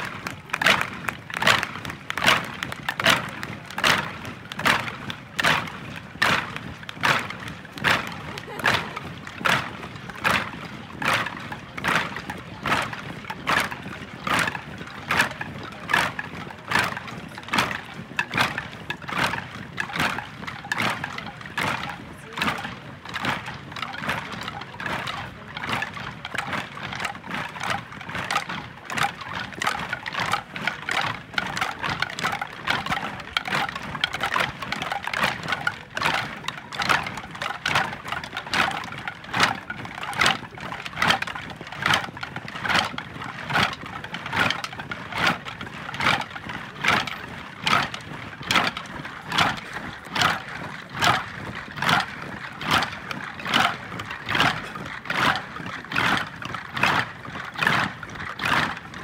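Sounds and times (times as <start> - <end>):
group beating steady rhythm: 0.0 - 59.0.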